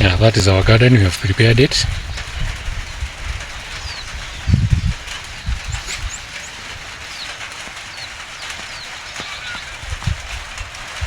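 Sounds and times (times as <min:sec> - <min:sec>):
steady hiss: 0:00.0 - 0:11.0
falling bird chirps: 0:01.8 - 0:11.0.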